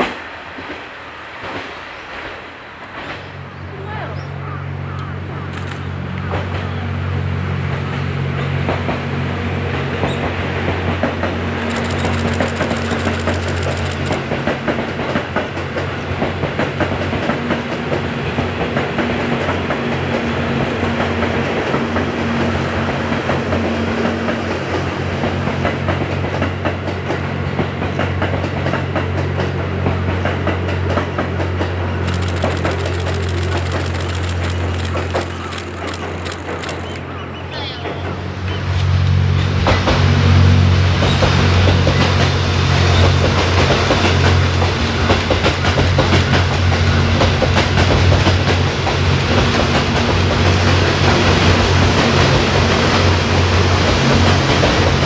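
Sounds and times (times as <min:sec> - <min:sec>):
train wheels clacking on rails: 0:00.0 - 0:03.4, 0:07.7 - 0:37.1, 0:39.6 - 0:55.0
diesel train engine drone: 0:00.0 - 0:55.0.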